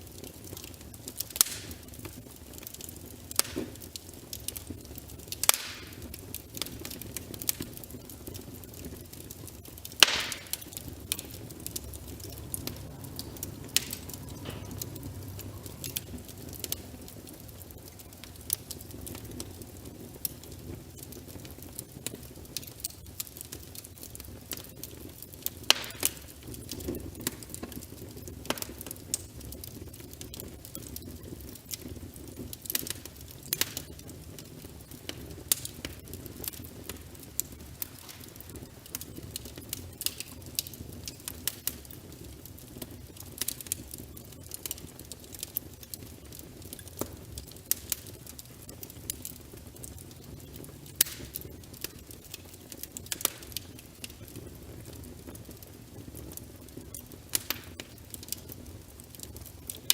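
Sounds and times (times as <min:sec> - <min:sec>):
burning logs crackling popping: 0:00.0 - 0:59.9
fire rumbling in fireplace: 0:00.0 - 0:59.9.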